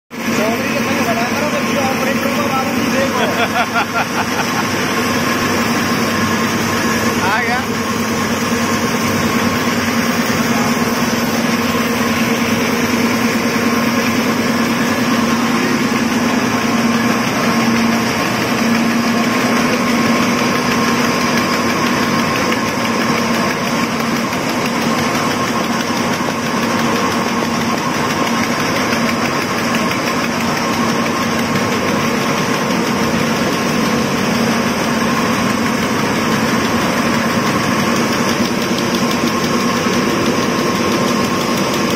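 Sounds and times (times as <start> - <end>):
machinery running with low hum: 0.2 - 41.9.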